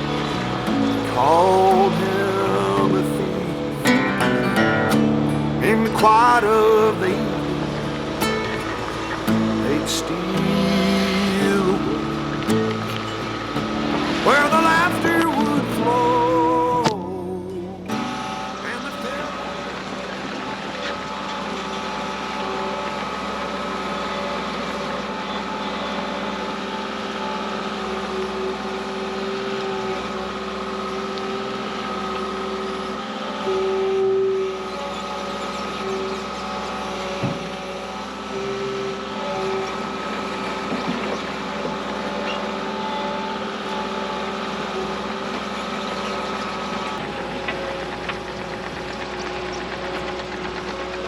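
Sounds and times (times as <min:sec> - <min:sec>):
track loader engine running: 0:00.0 - 0:51.0.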